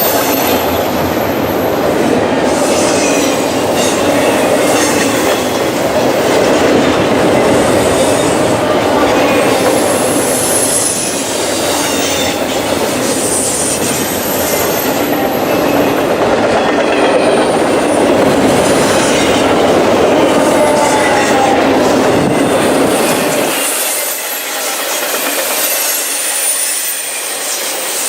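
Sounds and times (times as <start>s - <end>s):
train cars rumbling and clattering: 0.0s - 28.0s.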